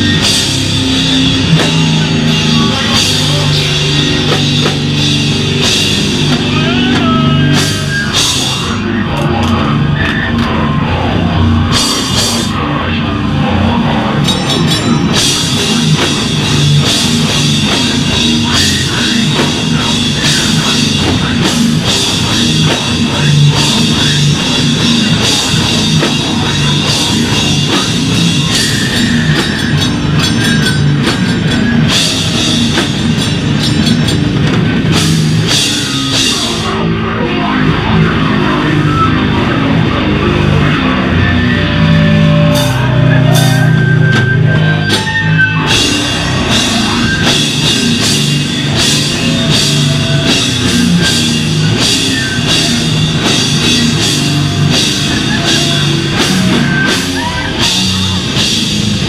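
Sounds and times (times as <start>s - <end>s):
hardcore band playing live: 0.0s - 59.0s.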